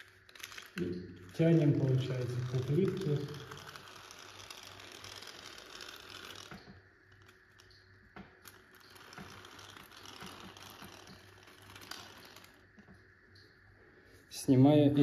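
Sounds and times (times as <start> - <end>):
razor blade scraping tiles: 0.0 - 7.7, 8.4 - 12.9.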